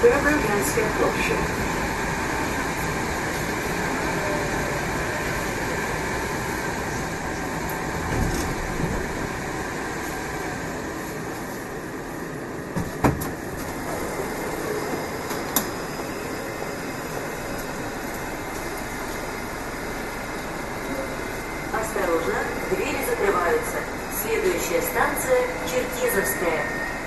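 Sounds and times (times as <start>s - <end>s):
train running gear rumble: 0.0s - 27.0s.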